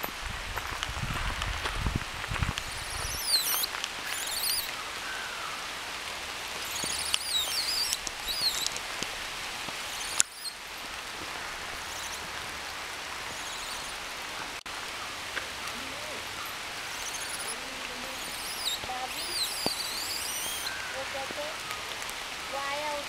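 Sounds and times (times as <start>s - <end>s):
steady rain falling: 0.0s - 23.0s
high sweeping bird calls: 2.5s - 5.8s, 6.5s - 9.0s, 9.7s - 23.0s.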